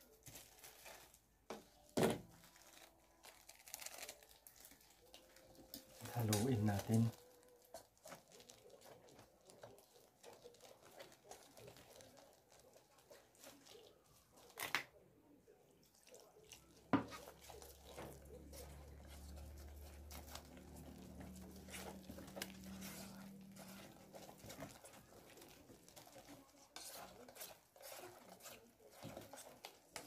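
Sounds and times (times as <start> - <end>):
fingers stirring wet batter: 0.0 - 14.8, 15.5 - 30.0.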